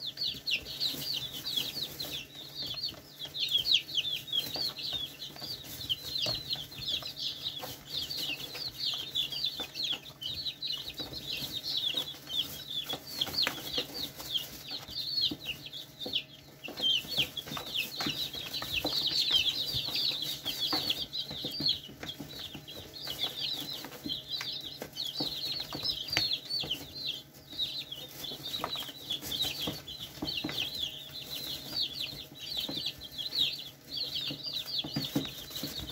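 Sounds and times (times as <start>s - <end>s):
young chickens peeping: 0.0s - 35.9s.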